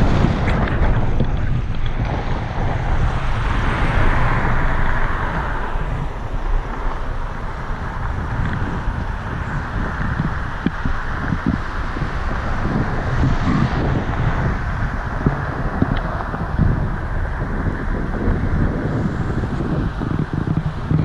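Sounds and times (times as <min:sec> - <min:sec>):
car road and tyre rumble: 0:00.0 - 0:21.0
wind noise on microphone: 0:00.0 - 0:21.0.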